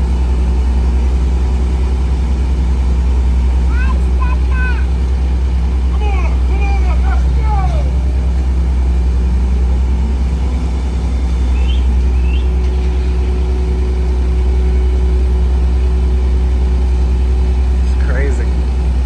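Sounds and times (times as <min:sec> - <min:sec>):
steady hum: 0:00.0 - 0:19.0
vehicle engine droning: 0:00.0 - 0:19.0.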